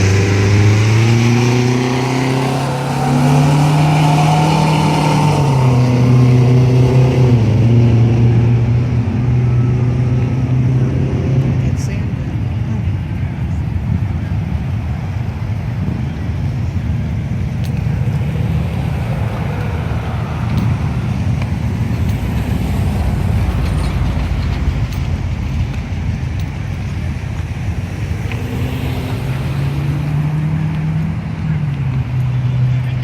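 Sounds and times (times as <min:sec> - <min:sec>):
motorcycle engines rumbling: 0:00.0 - 0:33.0.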